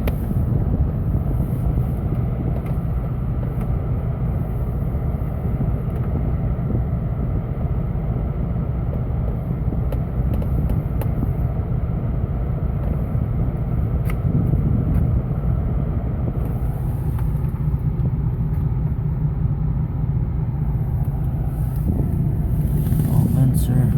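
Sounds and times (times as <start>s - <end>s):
engine humming: 0.0s - 23.9s
heater blower fan running: 0.0s - 23.9s.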